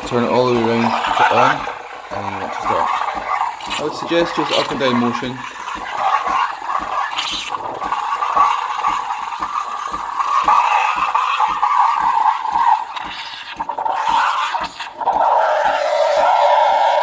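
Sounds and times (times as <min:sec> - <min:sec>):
low ticking: 0:00.0 - 0:17.0
steam wand hissing: 0:00.0 - 0:17.0.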